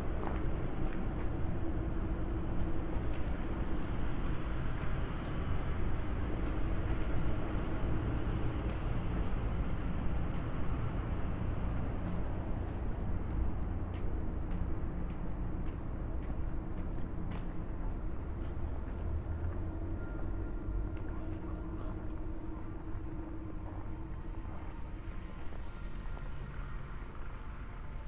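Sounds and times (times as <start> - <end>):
city road traffic rumble: 0.0 - 28.0.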